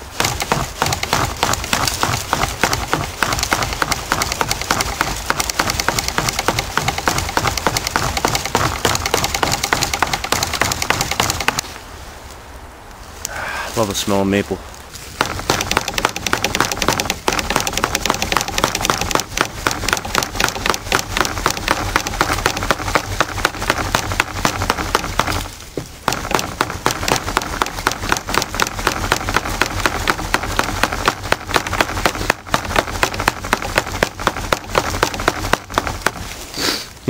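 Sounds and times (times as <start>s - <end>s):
stone axe chopping sapling: 0.0s - 11.6s, 15.1s - 36.7s.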